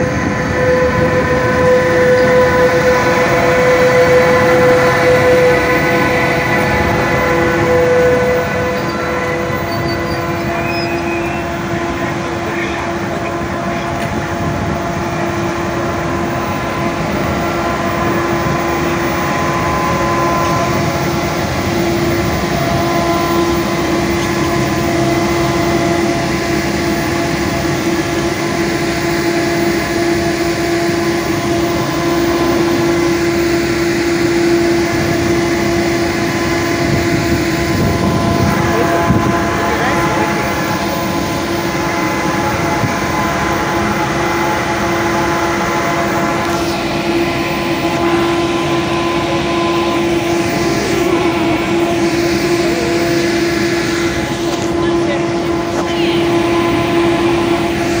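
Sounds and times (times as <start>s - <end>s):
electric locomotive whine: 0.0s - 58.0s.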